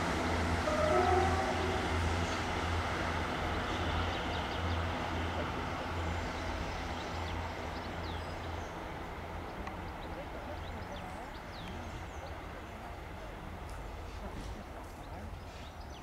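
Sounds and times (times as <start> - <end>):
train engines rumbling: 0.0 - 16.0.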